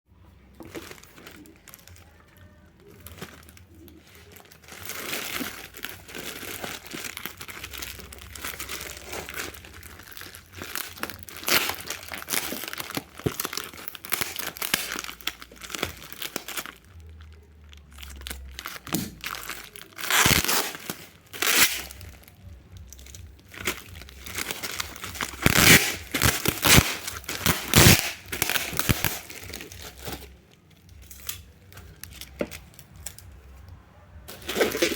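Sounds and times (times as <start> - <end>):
packaging crinkling and tearing: 0.5 - 34.9.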